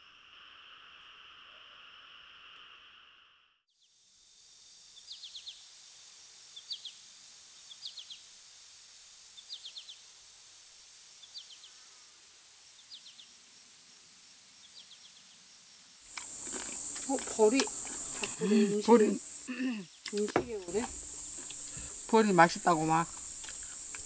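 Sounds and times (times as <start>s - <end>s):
high-pitched insect trill: 3.8s - 24.0s
crickets chirping: 3.9s - 24.0s.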